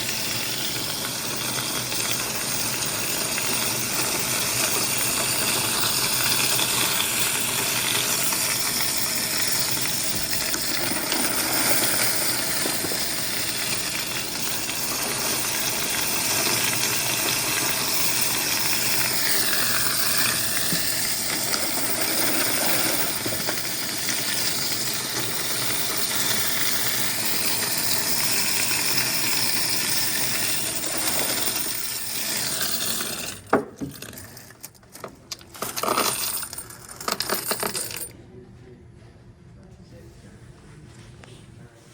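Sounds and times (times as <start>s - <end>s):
coins clattering through counting machine: 0.0s - 38.1s.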